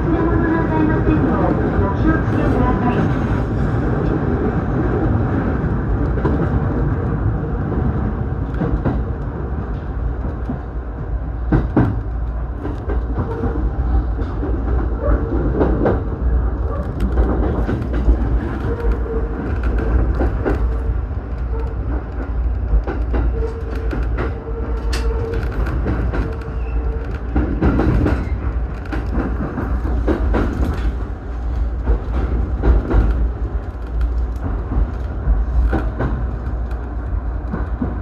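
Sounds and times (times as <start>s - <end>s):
train rumble inside carriage: 0.0s - 38.0s.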